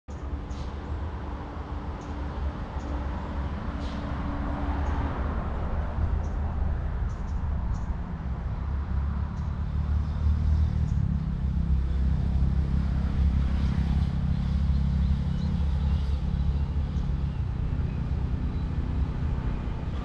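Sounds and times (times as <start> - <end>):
diesel locomotive engine rumbling: 0.2 - 20.0.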